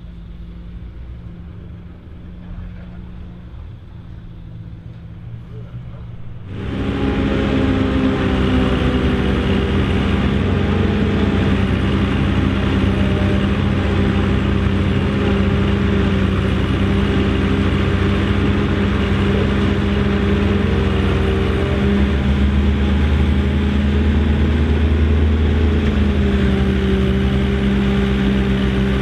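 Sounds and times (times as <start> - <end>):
forage harvester whirring: 0.0 - 29.0
tractor engine under load: 0.0 - 29.0.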